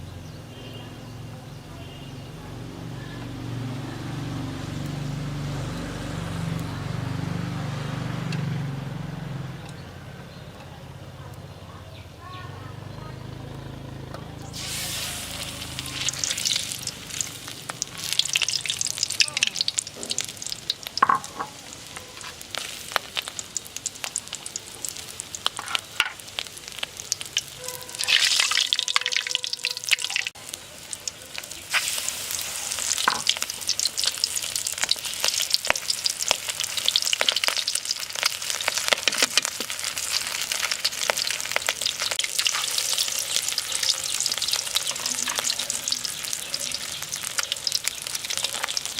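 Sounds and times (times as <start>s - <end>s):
fish deep-frying in hot oil: 3.5s - 10.7s, 14.4s - 48.9s.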